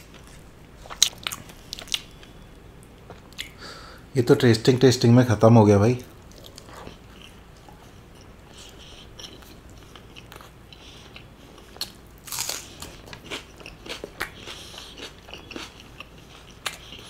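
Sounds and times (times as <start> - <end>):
person chewing food: 0.0 - 2.4, 3.0 - 3.6, 6.2 - 17.0.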